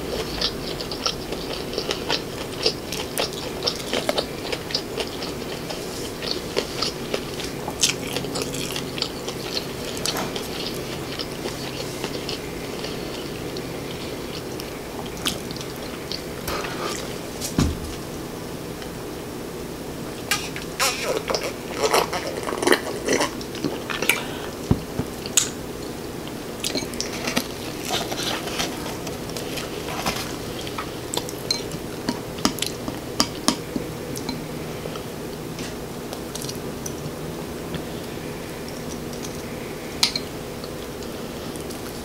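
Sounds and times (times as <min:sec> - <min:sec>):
faint hum: 0:00.0 - 0:42.0.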